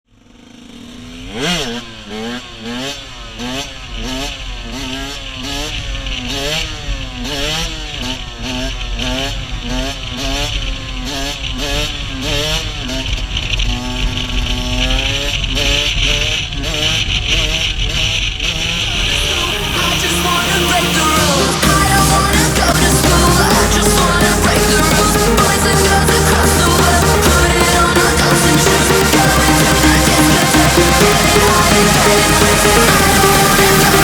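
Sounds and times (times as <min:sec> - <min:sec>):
two-stroke engine revving: 0:00.2 - 0:34.0.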